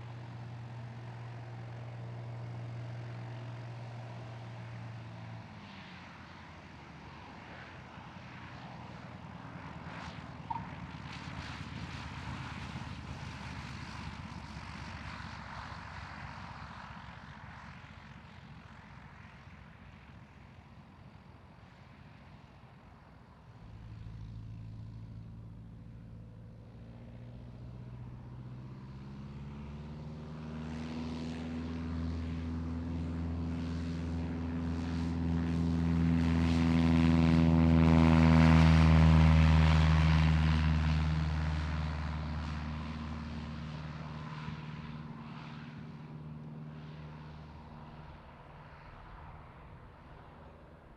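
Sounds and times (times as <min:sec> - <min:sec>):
propeller plane engine: 0:00.0 - 0:50.9
propeller plane low drone: 0:00.0 - 0:50.9.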